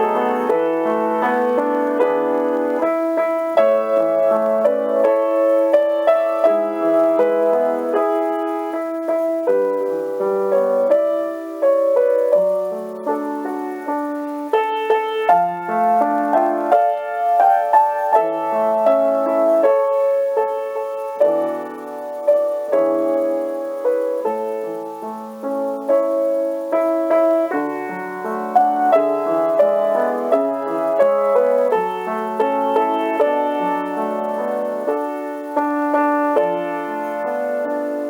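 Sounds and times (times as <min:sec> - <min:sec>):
solo piano music: 0:00.0 - 0:38.0.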